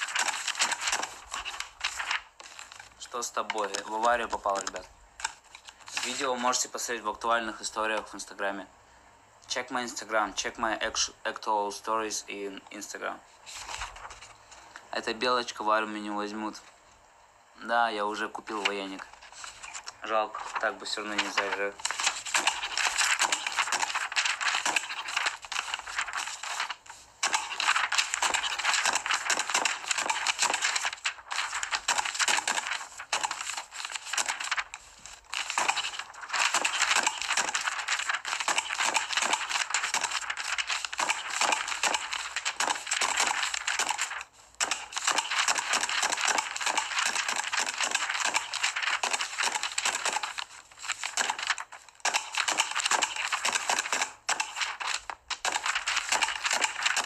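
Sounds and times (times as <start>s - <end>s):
paper rustling and flipping: 0.0s - 8.2s, 13.4s - 14.7s, 18.2s - 57.0s.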